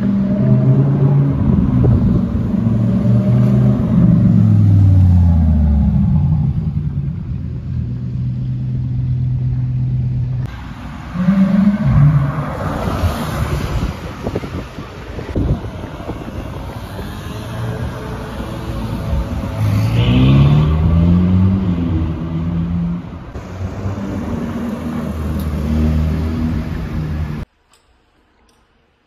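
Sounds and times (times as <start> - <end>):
sports car engine pulling through turn: 0.0 - 14.6, 16.3 - 27.4.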